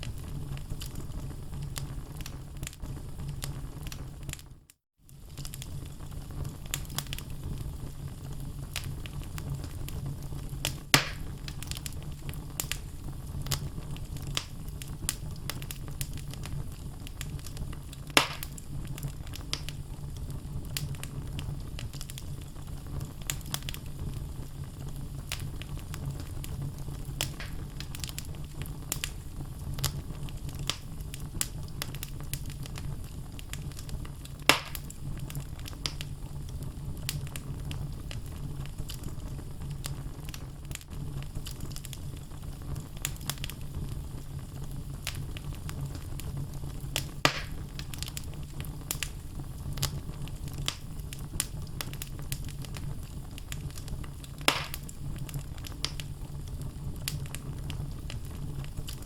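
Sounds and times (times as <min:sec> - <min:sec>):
wood logs crackling and popping: 0:00.0 - 0:59.0.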